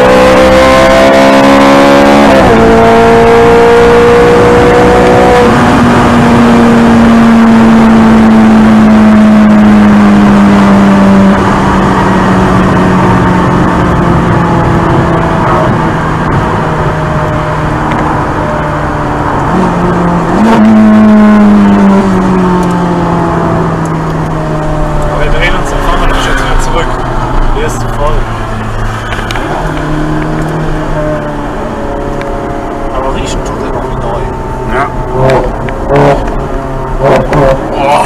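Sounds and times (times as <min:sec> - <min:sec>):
car engine droning: 0:00.0 - 0:38.0.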